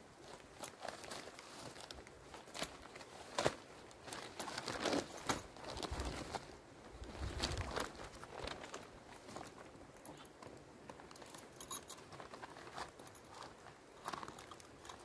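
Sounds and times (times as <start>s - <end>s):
tent material rustling: 0.0s - 15.0s.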